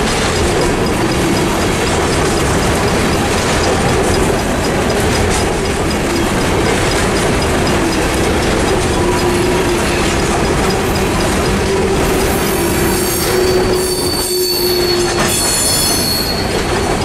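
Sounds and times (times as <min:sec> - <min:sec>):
crossing bell ringing: 0:00.0 - 0:17.0
train wheels clattering and squealing: 0:00.0 - 0:17.0.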